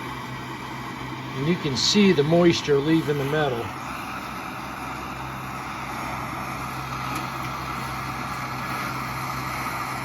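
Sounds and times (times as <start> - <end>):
gas torch hissing: 0.0 - 10.0.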